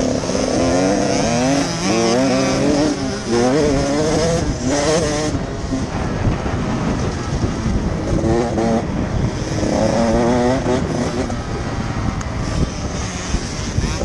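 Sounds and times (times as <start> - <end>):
motocross bike engine revving: 0.0 - 14.0
wind rumble on microphone: 0.0 - 14.0.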